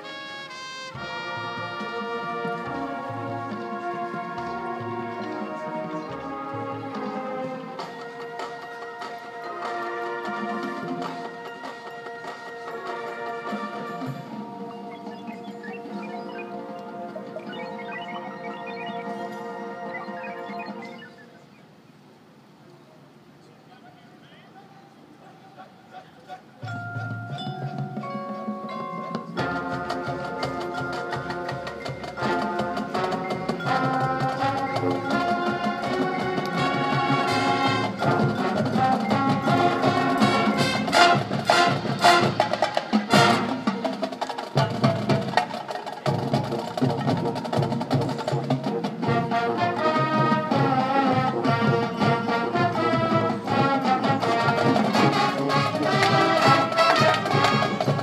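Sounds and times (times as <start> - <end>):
brass chords: 0.0 - 21.2, 27.0 - 58.0
drum-line percussion: 0.0 - 21.4, 26.1 - 58.0.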